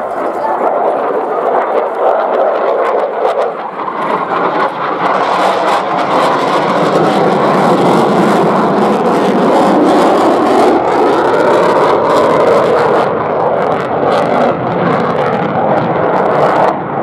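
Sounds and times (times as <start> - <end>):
fighter jet flying by: 0.0 - 17.0.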